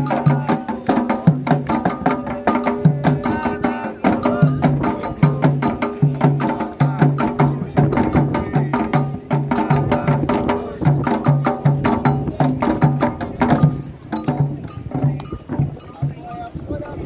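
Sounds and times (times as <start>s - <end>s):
hand drums low strokes: 0.0s - 16.9s
sharp high percussion strikes: 0.0s - 17.0s.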